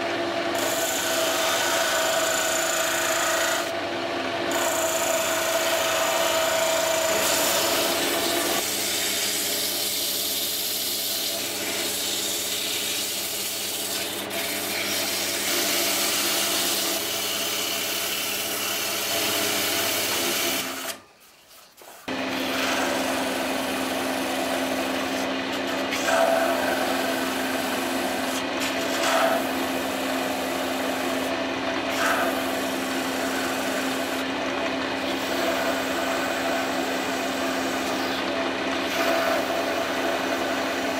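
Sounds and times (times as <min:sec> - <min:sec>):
lathe motor hum: 0:00.0 - 0:21.0, 0:22.1 - 0:40.9
turning tool scraping wood: 0:00.5 - 0:03.7, 0:04.5 - 0:34.3.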